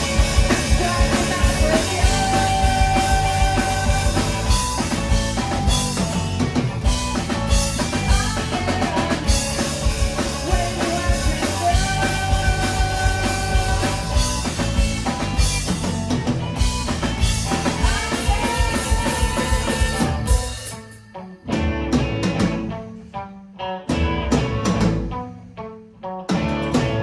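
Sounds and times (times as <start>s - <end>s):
drum kit beat: 0.0s - 23.0s, 23.9s - 25.3s
guitar: 0.0s - 27.0s
rock band playing: 0.0s - 27.0s.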